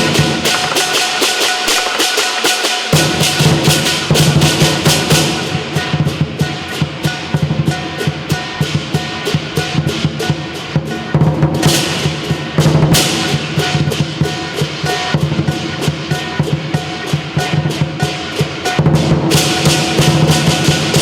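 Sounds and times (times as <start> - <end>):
cymbals clashing: 0.0 - 21.0
drum beating fast rhythm: 0.0 - 21.0.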